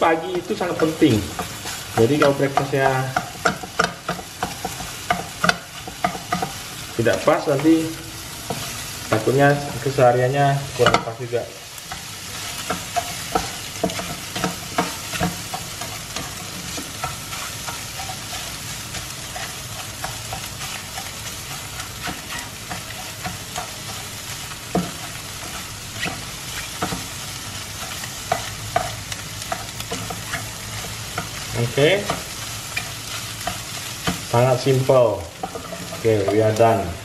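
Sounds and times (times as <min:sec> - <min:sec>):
spatula scraping a pan: 0:00.0 - 0:09.9, 0:10.6 - 0:36.8
eggs and sausage sizzling: 0:00.0 - 0:37.0.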